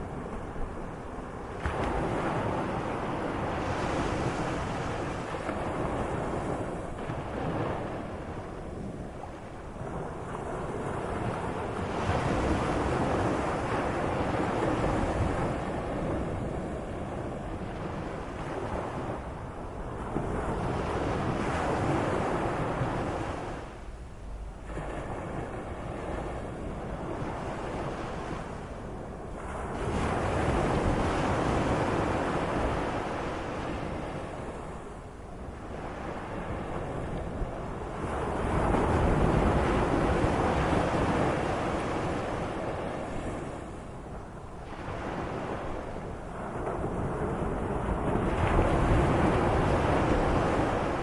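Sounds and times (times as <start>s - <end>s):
sea waves washing in: 0.0s - 51.0s
wind rumble on microphone: 0.0s - 51.0s.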